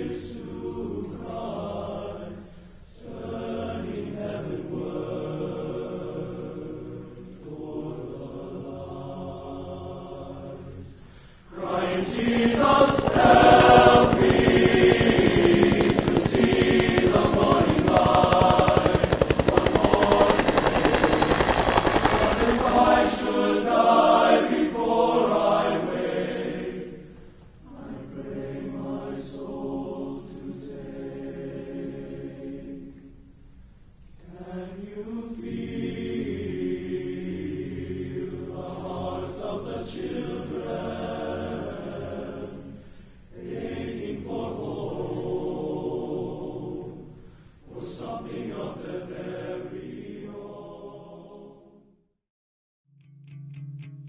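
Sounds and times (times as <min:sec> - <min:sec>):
choral chant with layered chords: 0:00.0 - 0:33.3, 0:34.2 - 0:52.0.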